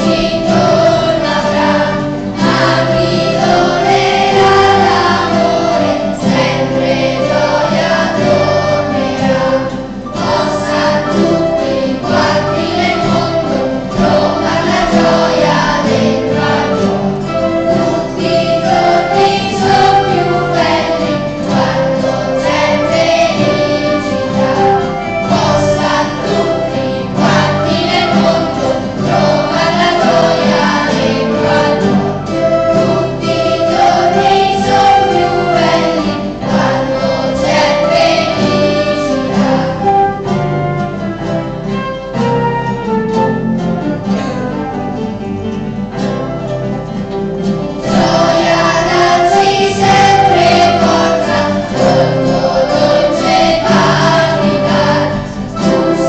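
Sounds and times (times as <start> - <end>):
children's choir singing: 0.0 - 56.0
classical guitar ensemble: 0.0 - 56.0.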